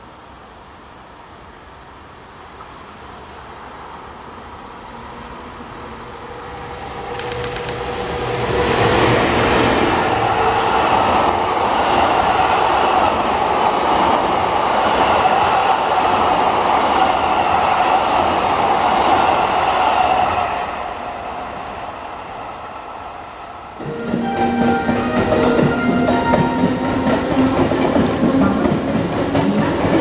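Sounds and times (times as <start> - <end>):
train wheels running on rails: 1.6 - 30.0.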